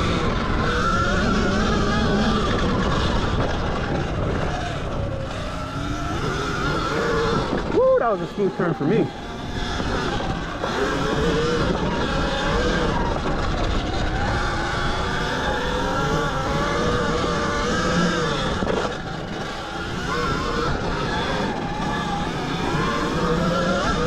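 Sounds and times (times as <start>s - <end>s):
electric motor whine: 0.0s - 24.0s
steady rushing noise: 0.0s - 24.0s.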